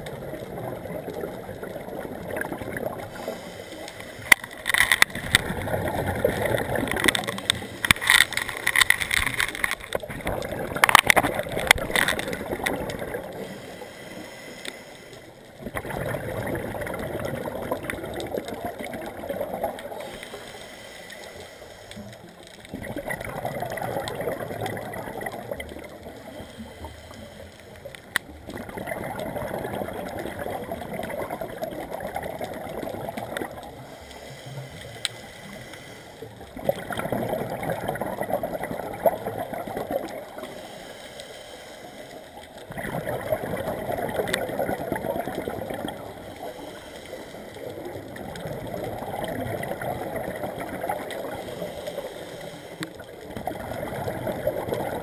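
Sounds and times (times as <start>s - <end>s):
underwater exhaust bubbles gurgling: 0.0s - 55.0s.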